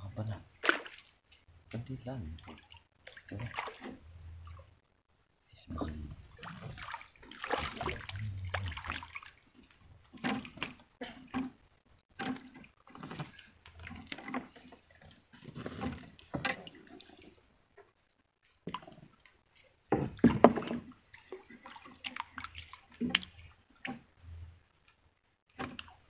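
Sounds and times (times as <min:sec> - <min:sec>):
water sloshing and splashing: 0:00.0 - 0:04.9, 0:05.7 - 0:26.0.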